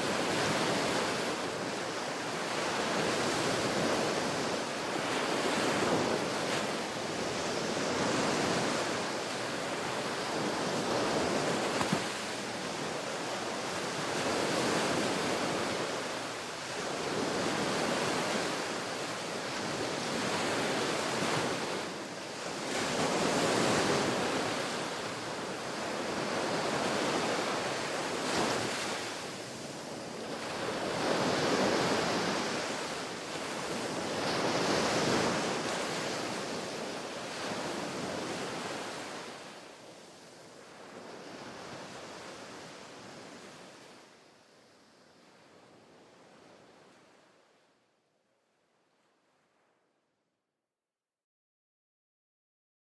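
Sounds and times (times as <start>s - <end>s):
ocean waves washing onto beach: 0.0s - 44.2s.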